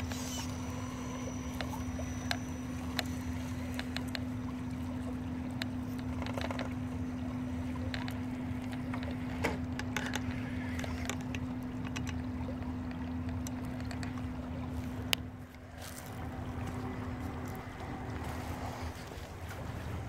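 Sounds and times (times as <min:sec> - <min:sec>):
electric motor humming: 0:00.0 - 0:12.2, 0:14.9 - 0:20.0.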